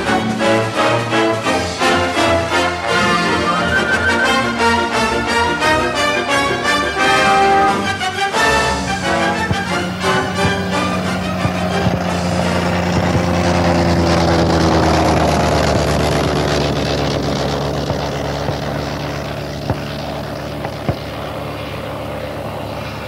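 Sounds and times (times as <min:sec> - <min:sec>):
propeller plane engine droning: 0:00.0 - 0:23.0.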